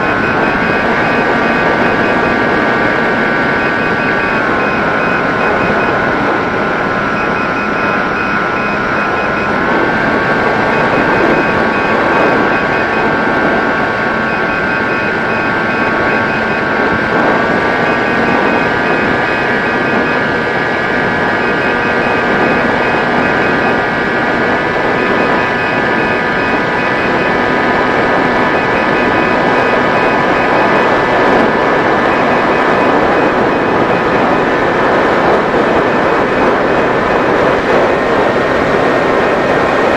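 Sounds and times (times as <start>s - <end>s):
electric motor and propeller whining: 0.0s - 39.9s
wind rush: 0.0s - 39.9s.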